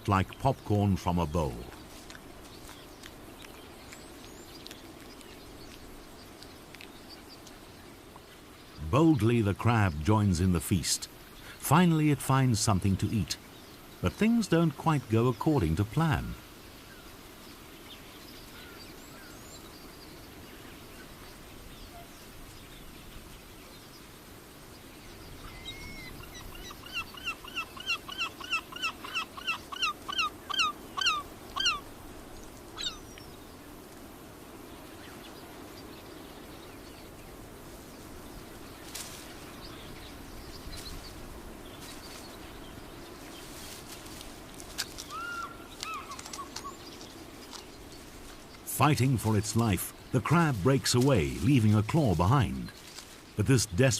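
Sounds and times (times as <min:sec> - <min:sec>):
low outdoor background noise: 0:00.0 - 0:53.9.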